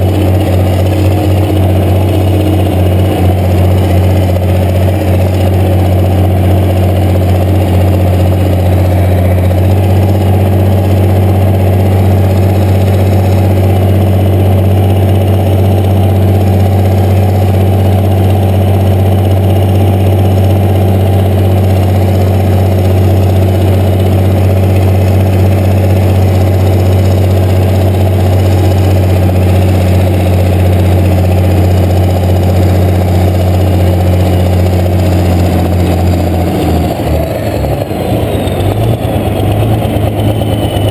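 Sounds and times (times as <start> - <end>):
tractor engine running steadily: 0.0 - 40.9.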